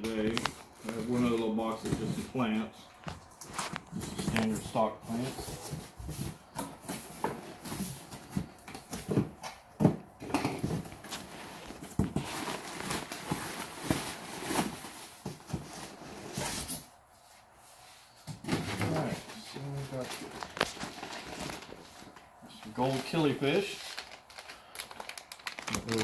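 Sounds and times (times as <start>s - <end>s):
plastic bags rustling: 0.0s - 17.1s, 18.6s - 26.0s.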